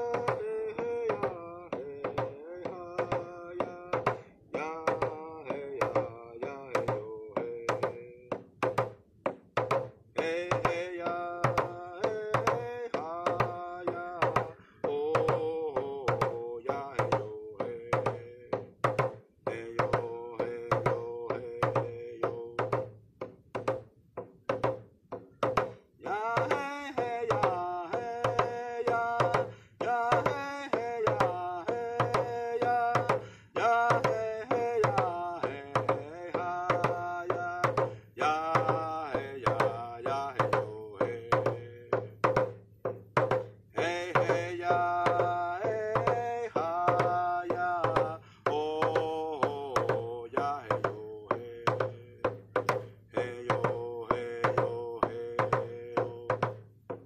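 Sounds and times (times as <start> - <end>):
person singing: 0.0 - 8.5, 10.2 - 22.9, 26.0 - 42.4, 43.7 - 57.0
hand drum beating: 0.0 - 57.0.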